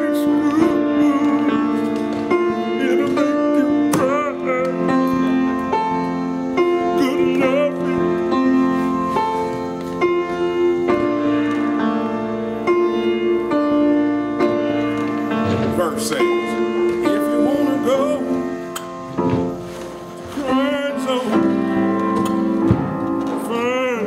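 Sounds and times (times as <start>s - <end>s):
soul song on piano: 0.0s - 24.0s.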